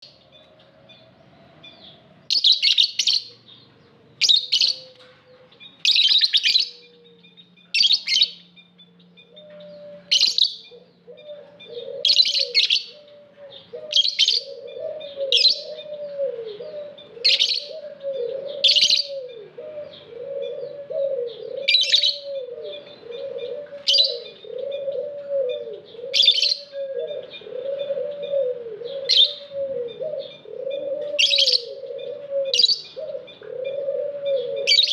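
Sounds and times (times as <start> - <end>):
lovebirds shrill chirps: 0.0 - 15.9, 16.6 - 20.8, 21.4 - 24.9, 25.5 - 28.4, 29.0 - 33.8
low warbling bird call: 4.2 - 34.9.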